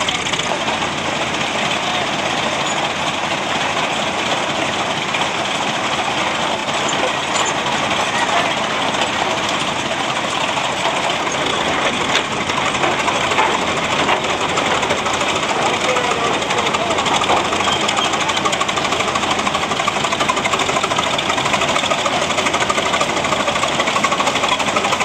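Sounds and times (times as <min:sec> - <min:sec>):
traction engine clattering: 0:00.0 - 0:25.0.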